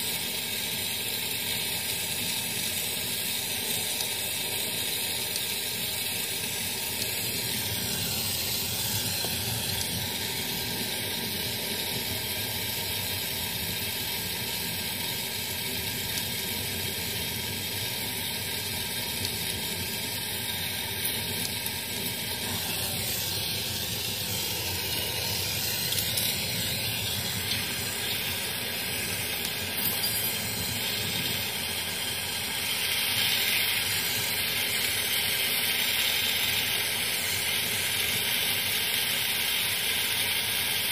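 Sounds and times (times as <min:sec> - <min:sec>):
gas torch hissing: 0:00.0 - 0:40.9.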